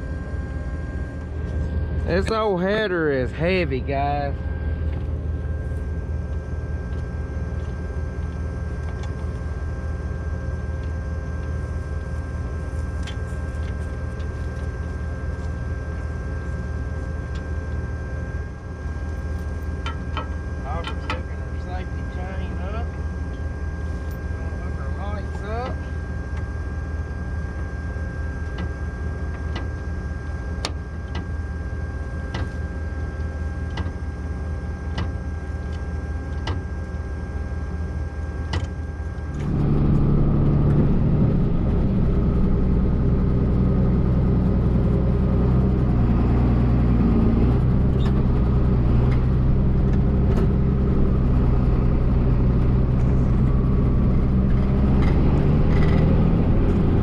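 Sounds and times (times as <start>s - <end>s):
diesel farm machinery running: 0.0s - 57.0s
thin steady whine: 0.0s - 57.0s.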